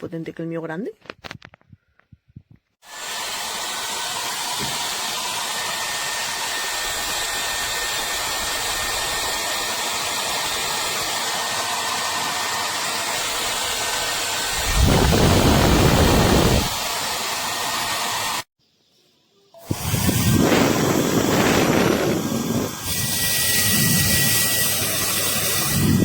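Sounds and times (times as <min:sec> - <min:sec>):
hair dryer blowing: 0:02.8 - 0:18.5, 0:19.6 - 0:26.0.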